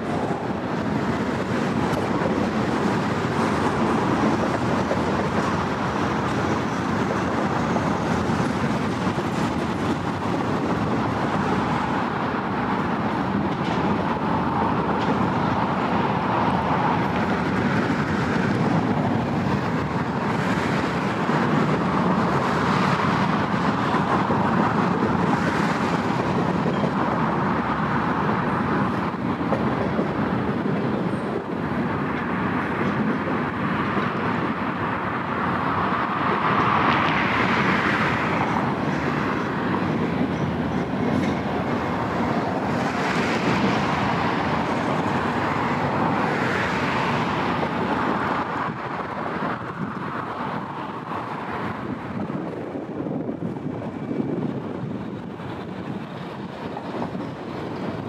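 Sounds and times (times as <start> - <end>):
train wheels rolling on rail: 0.0 - 58.0.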